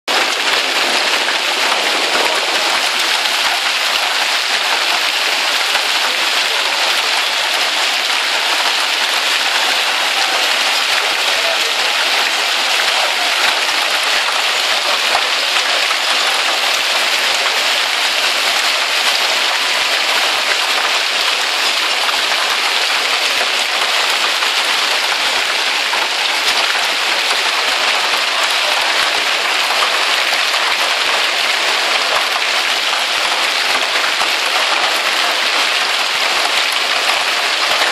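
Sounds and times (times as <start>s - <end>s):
hail and rain pelting tarmac and cars: 0.1s - 37.9s.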